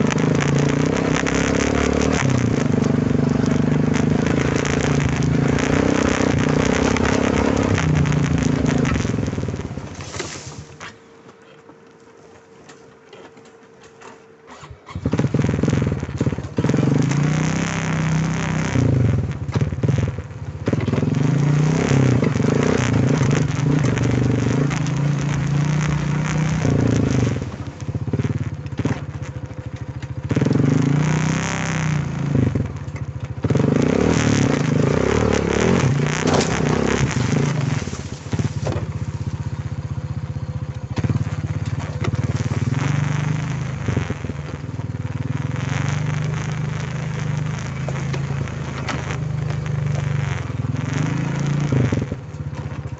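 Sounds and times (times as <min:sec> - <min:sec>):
quad bike engine revving: 0:00.0 - 0:10.9, 0:14.5 - 0:52.9
tyre and road noise: 0:00.0 - 0:52.9.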